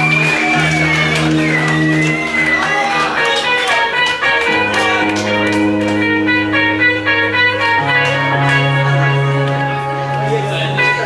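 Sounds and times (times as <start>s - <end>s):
bass notes: 0.0s - 11.0s
electric guitar picking notes: 0.0s - 11.0s.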